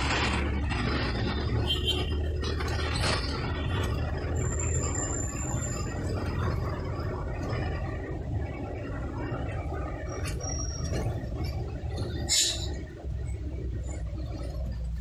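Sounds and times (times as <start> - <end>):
engine humming: 0.0 - 15.0
road noise: 0.0 - 15.0.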